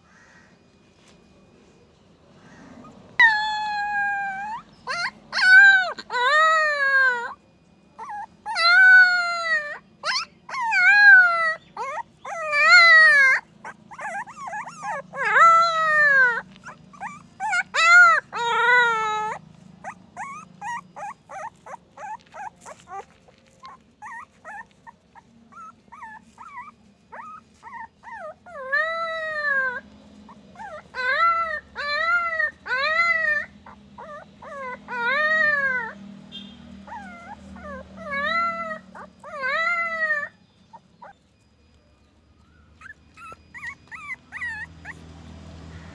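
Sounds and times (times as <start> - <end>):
puppy crying: 2.5 - 36.0, 36.8 - 41.5, 42.4 - 45.9.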